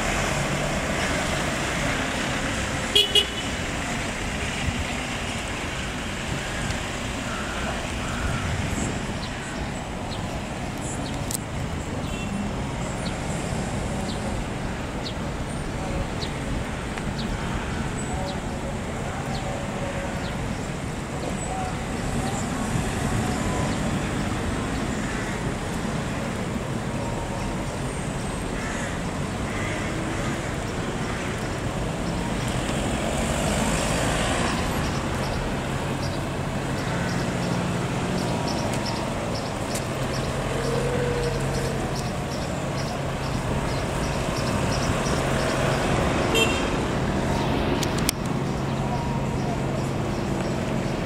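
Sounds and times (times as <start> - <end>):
car engine and tyre noise: 0.0 - 51.0.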